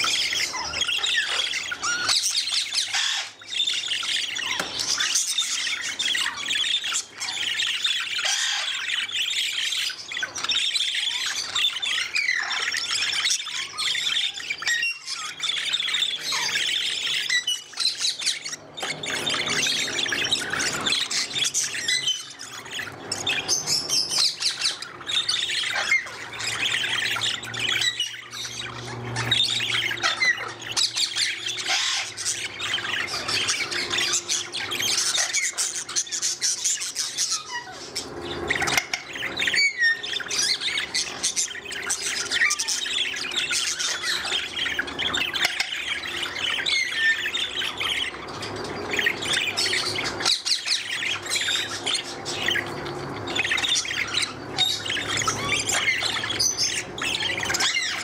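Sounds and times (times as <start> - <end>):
budgerigars chattering and warbling: 0.0 - 58.0.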